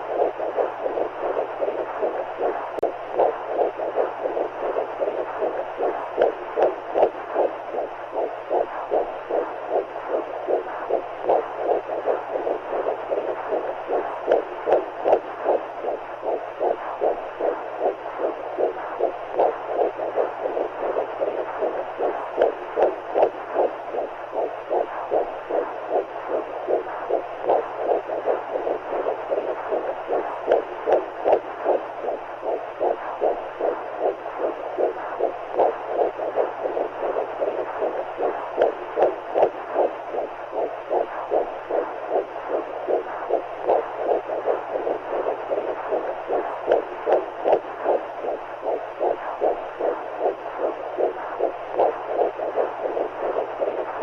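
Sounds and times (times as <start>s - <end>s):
muffled heartbeat whoosh: 0.0s - 54.0s.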